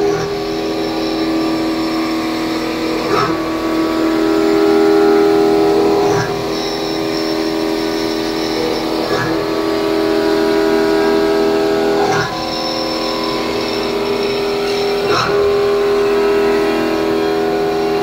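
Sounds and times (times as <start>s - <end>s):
milling machine whine: 0.0s - 18.0s.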